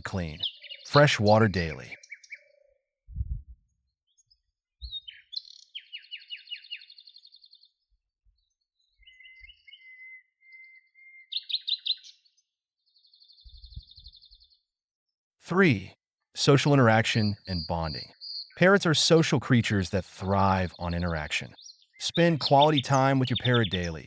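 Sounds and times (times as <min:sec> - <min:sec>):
birds chirping and trilling: 0:00.0 - 0:03.0, 0:03.7 - 0:14.8, 0:16.5 - 0:18.8, 0:20.2 - 0:24.0.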